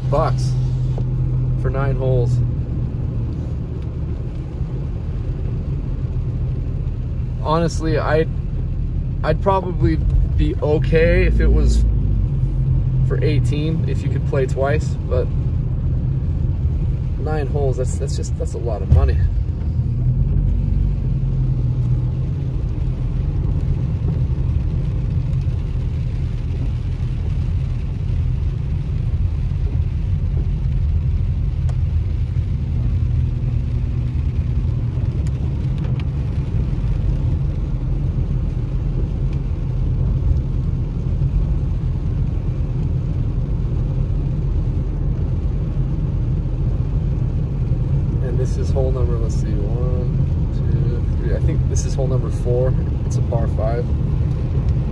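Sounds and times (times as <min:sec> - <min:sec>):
car engine and tyres rumble: 0:00.0 - 0:54.9.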